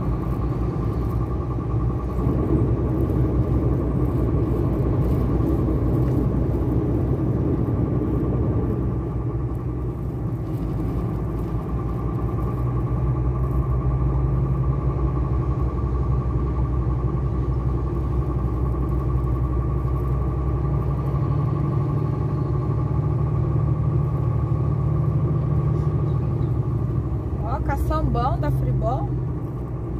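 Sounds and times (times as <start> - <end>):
road noise: 0.0 - 29.9
truck engine drone: 0.0 - 29.9.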